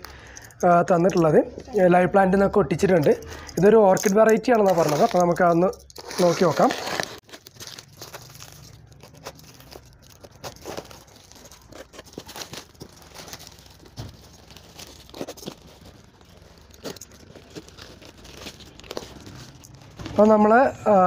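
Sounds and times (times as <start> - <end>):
plastic film crinkling and tearing: 3.0 - 20.6.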